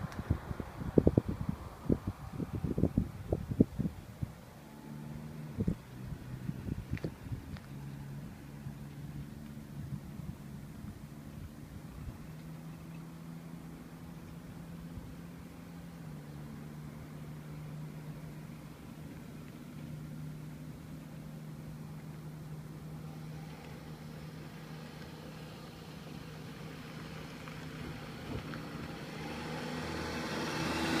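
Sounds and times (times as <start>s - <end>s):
low engine hum: 0.0s - 31.0s
vehicle approaching: 0.0s - 31.0s.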